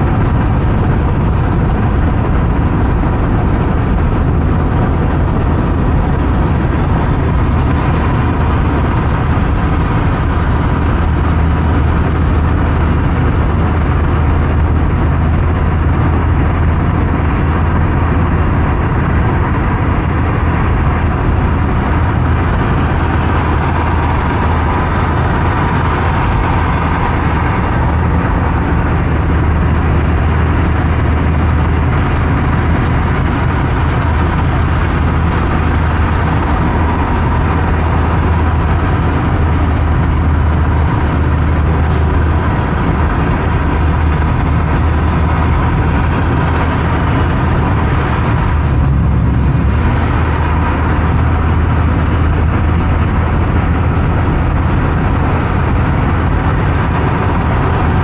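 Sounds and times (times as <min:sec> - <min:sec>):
car engine hum: 0:00.0 - 0:58.0
tyre and road noise: 0:00.0 - 0:58.0.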